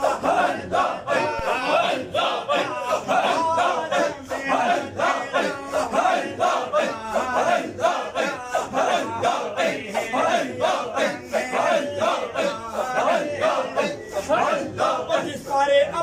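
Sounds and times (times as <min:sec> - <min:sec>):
group of men chanting: 0:00.0 - 0:16.0.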